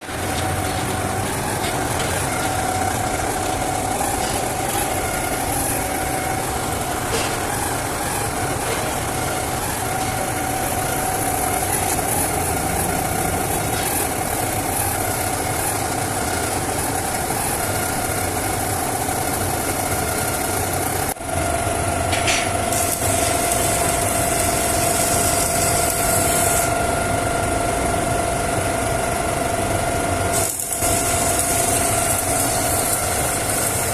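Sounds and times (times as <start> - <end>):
machine drone: 0.0 - 33.9.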